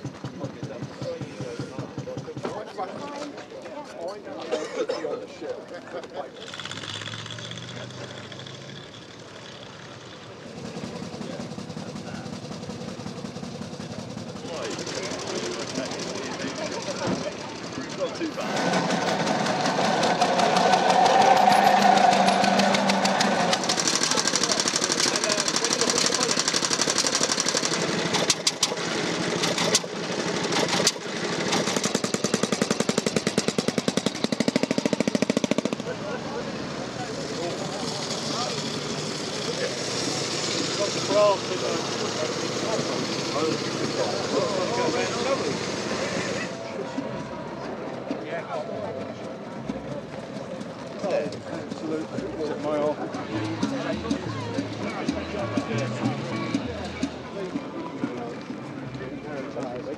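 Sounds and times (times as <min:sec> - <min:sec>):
motorcycle engines running: 0:00.0 - 0:03.9, 0:05.6 - 0:59.9.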